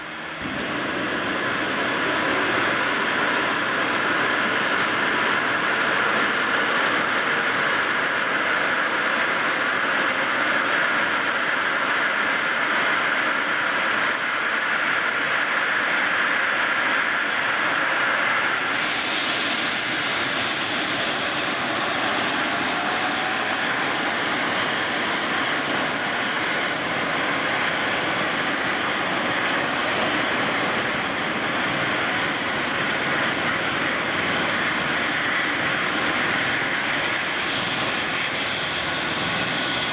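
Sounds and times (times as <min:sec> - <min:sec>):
helicopter turbine engines whining: 0:00.0 - 0:39.9.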